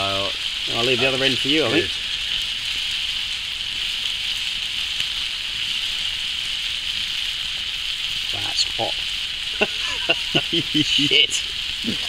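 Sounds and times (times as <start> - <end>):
faint crackles: 0.0 - 12.0
vegetables sizzling in a pan: 0.0 - 12.0.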